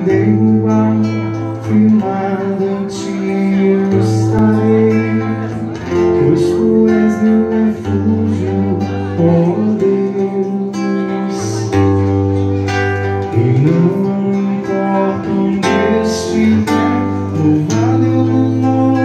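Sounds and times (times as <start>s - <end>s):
acoustic guitar strumming: 0.0s - 19.0s
man singing into a microphone: 0.0s - 19.0s.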